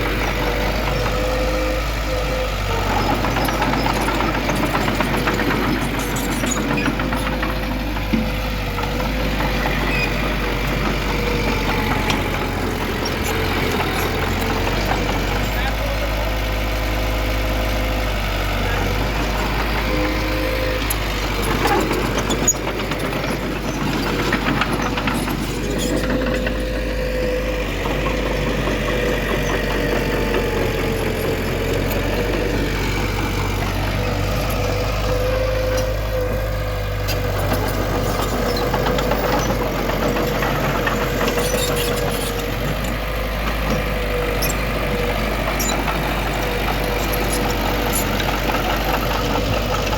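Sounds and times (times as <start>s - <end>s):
constant machine whine: 0.0s - 49.9s
heavy diesel engine running: 0.0s - 49.9s.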